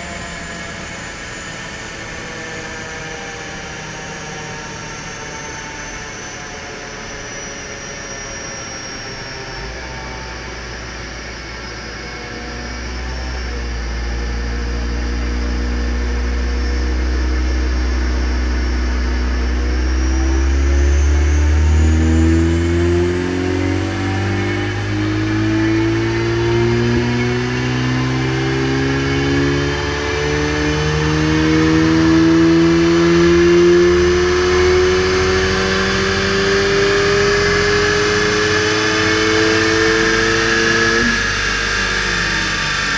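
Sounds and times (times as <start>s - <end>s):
car engine and exhaust revving: 0.0s - 42.9s.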